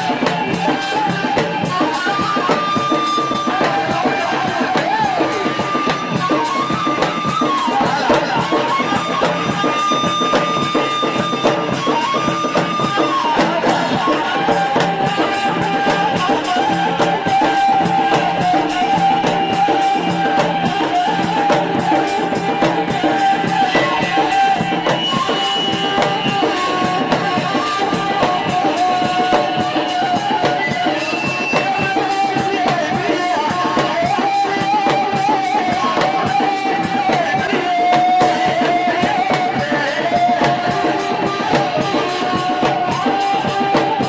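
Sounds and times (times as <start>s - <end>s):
hand drums beating: 0.0s - 44.0s
reed flute melody: 0.0s - 44.0s.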